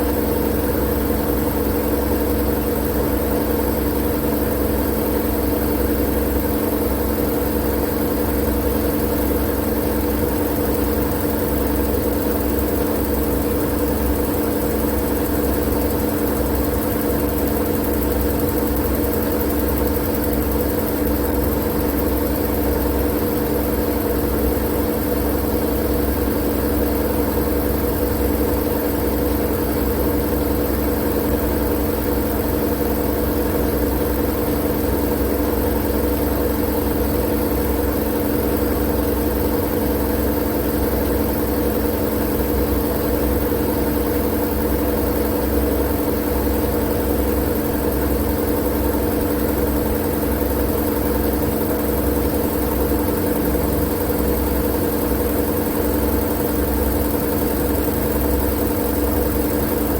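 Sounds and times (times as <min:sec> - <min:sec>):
constant machine drone: 0:00.0 - 0:59.9.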